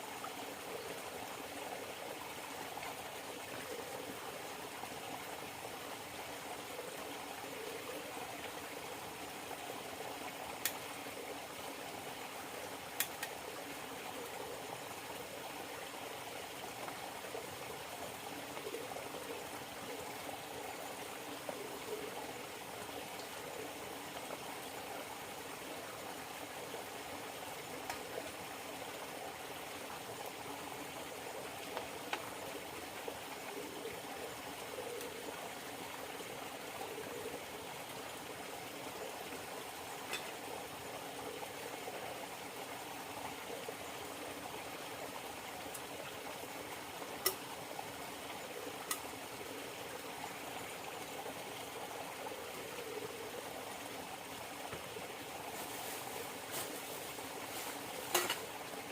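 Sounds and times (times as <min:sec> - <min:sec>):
river water flowing: 0:00.0 - 0:58.9.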